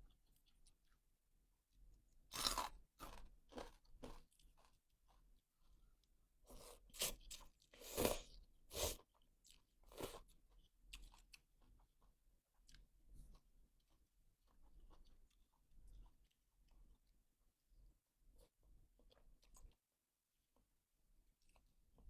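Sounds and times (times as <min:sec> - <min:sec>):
chewing crunchy food: 0:00.0 - 0:01.1, 0:01.7 - 0:19.9, 0:21.3 - 0:22.0.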